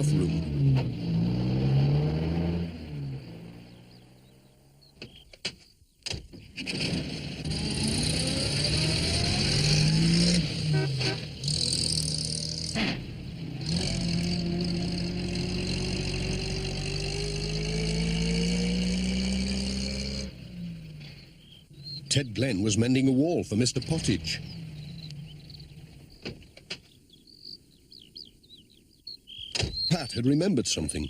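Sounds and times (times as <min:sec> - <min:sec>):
vehicle engine driving off: 0:00.0 - 0:05.0, 0:06.6 - 0:26.6.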